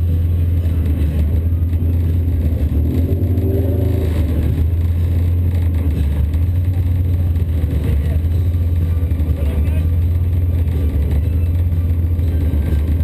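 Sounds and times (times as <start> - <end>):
car engine idling: 0.0 - 13.0
engine revving: 0.0 - 13.0.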